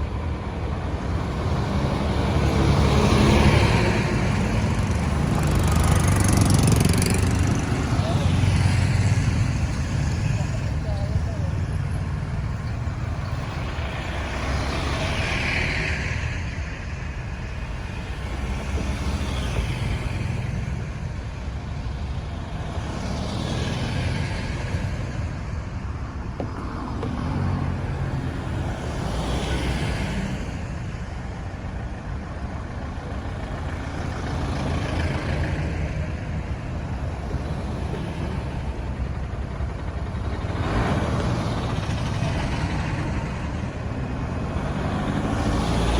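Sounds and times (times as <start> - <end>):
road traffic rumble: 0.0 - 45.9
vehicles passing: 0.0 - 45.9.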